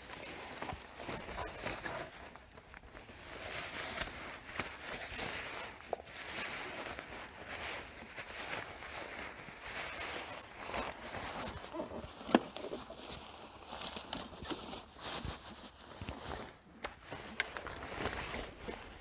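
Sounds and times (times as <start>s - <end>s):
fabric cover rustling: 0.0s - 19.0s.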